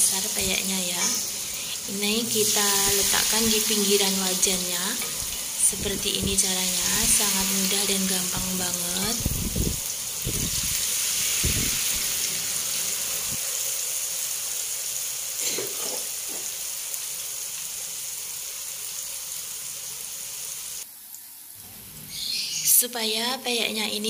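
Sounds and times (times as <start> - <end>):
batter sizzling in hot oil: 0.0 - 21.3.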